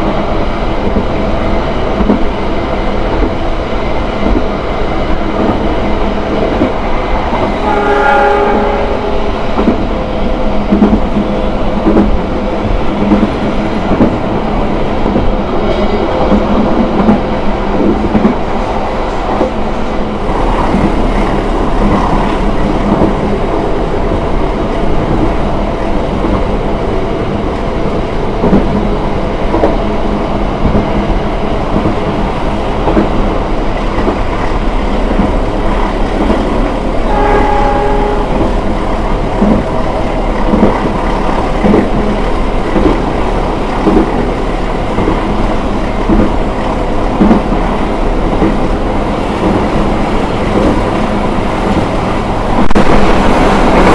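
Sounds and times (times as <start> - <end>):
train rumbling along track: 0.0 - 53.9.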